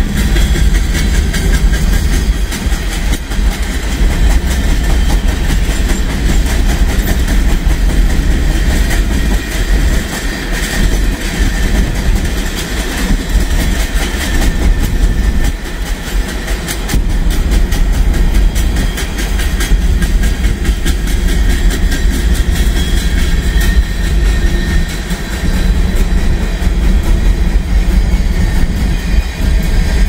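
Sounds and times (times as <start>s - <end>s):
wheels clicking over rail joints: 0.0s - 26.1s
freight train wheels rumbling: 0.0s - 30.0s.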